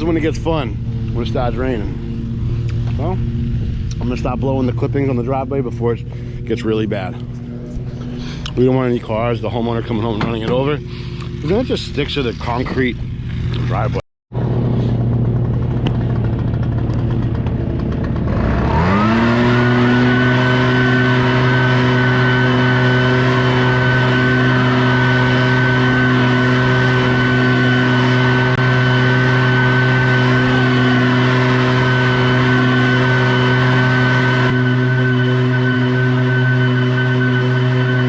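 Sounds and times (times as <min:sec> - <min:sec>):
leaf blower running: 0:00.0 - 0:38.0.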